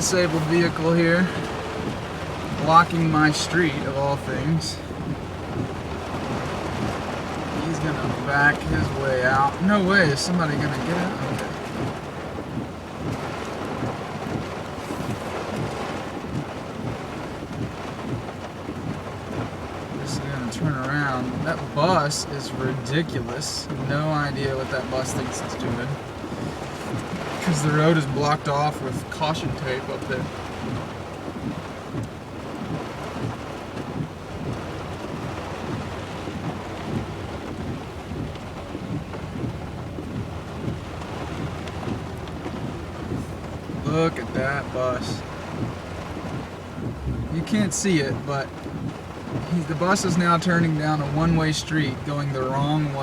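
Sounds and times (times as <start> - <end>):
heavy rain on a truck: 0.0 - 53.0.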